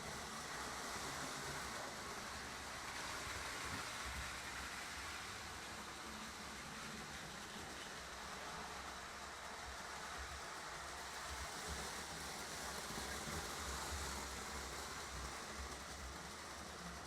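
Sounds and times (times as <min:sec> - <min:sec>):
model trains rumbling on track: 0:00.0 - 0:17.0.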